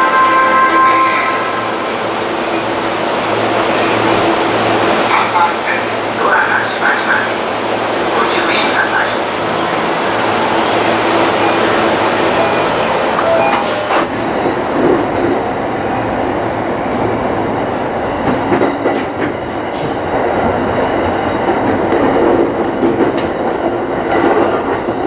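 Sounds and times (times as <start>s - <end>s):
train wheels rumbling on rails: 1.8s - 25.0s.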